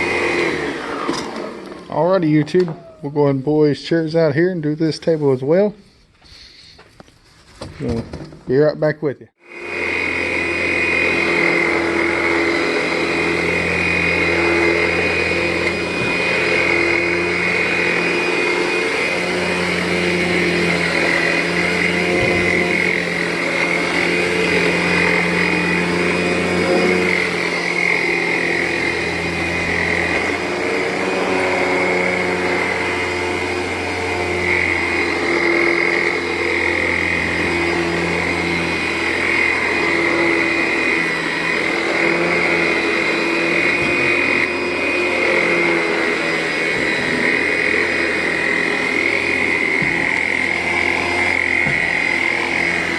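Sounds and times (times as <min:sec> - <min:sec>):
vacuum cleaner running: 0:00.0 - 0:04.2, 0:09.4 - 0:52.9.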